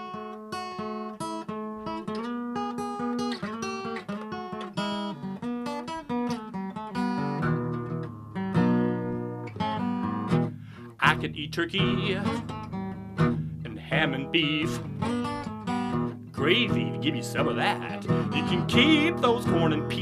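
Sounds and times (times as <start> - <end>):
acoustic guitar blues picking: 0.0 - 20.0.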